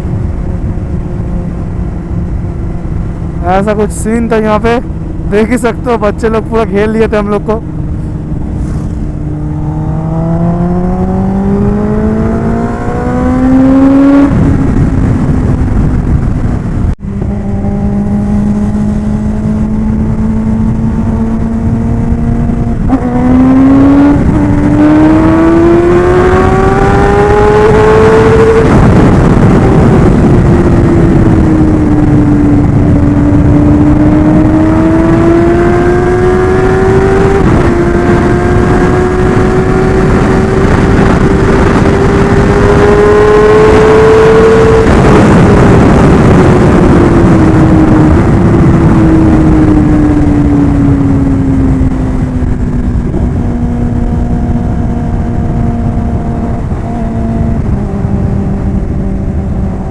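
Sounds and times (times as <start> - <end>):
motorcycle engine accelerating: 0.0 - 59.9
wind rush: 0.0 - 59.9.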